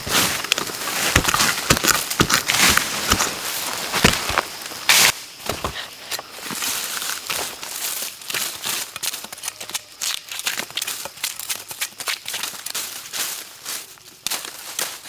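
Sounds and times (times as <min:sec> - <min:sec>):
dry plants crackling and rustling: 0:00.0 - 0:15.0.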